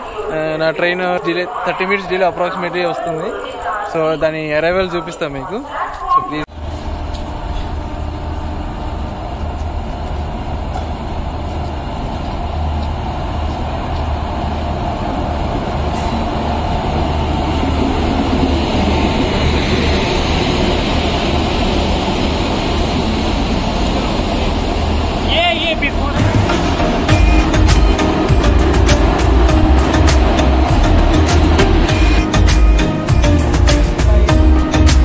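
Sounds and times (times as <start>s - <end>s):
train wheels rumbling on rails: 5.8s - 35.0s.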